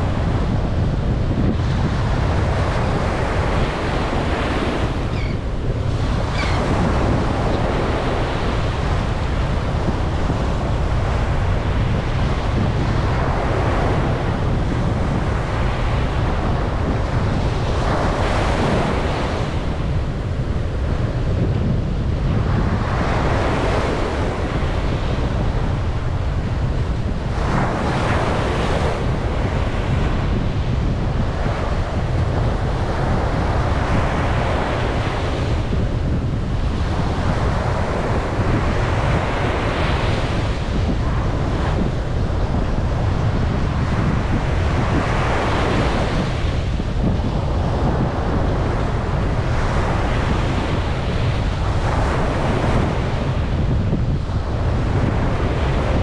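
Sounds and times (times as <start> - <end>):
ocean surf breaking: 0.0 - 56.0
wind on microphone: 0.0 - 56.0.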